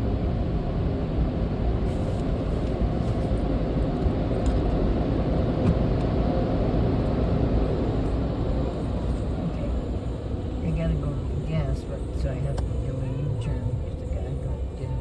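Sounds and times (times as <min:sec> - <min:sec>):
car road and engine noise: 0:00.0 - 0:15.0
faint constant hum: 0:00.0 - 0:15.0.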